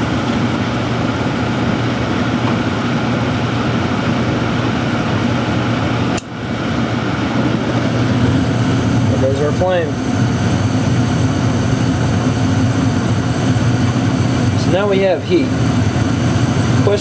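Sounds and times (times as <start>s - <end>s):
furnace motor hum: 0.0s - 17.0s.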